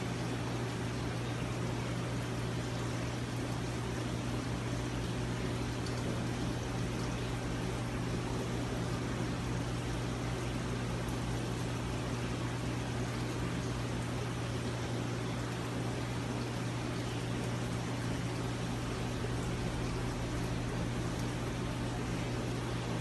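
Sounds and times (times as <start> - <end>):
aquarium pump humming: 0.0 - 23.0.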